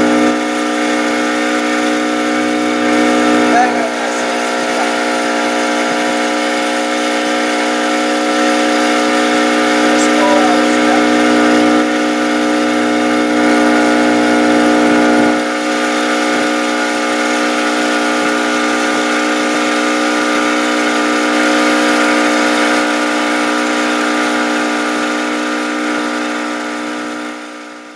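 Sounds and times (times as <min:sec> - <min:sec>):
boat motor droning: 0:00.0 - 0:27.9.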